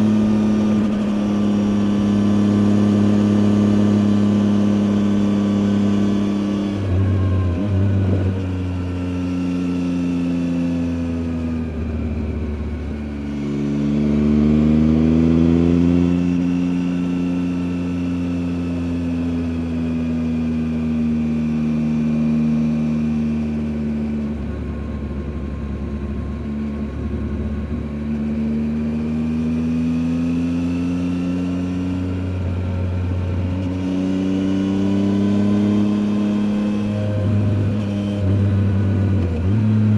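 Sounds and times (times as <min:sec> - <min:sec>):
motorcycle engine revving: 0:00.0 - 0:25.5, 0:26.1 - 0:39.9.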